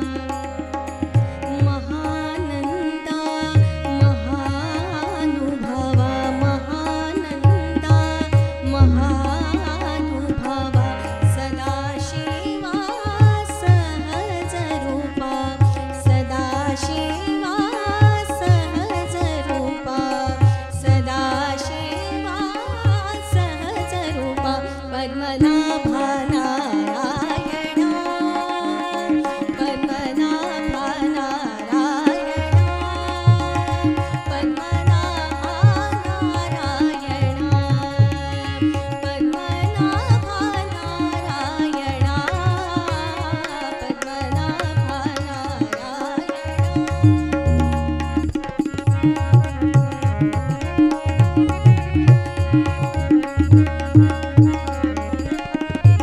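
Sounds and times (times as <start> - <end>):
harmonium chords: 0.0 - 56.0
tabla: 0.0 - 56.0
woman singing: 0.0 - 56.0.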